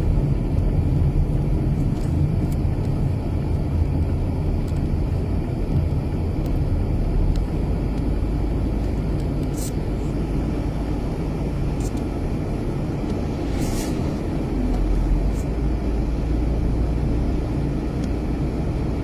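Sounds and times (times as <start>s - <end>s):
car driving cabin rumble: 0.0s - 19.0s.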